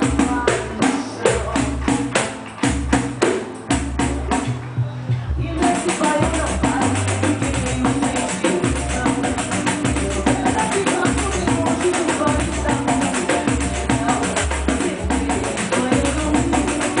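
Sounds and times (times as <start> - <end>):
pandeiro samba rhythm: 0.0 - 17.0
samba music with bass and singing: 0.0 - 17.0.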